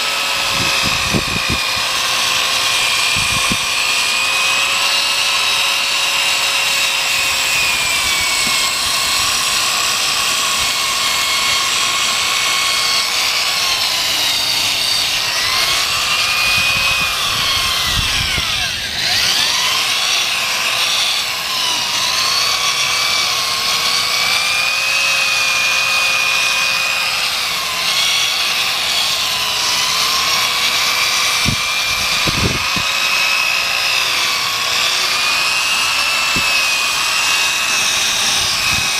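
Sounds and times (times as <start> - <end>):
power sander motor whine: 0.0 - 38.9.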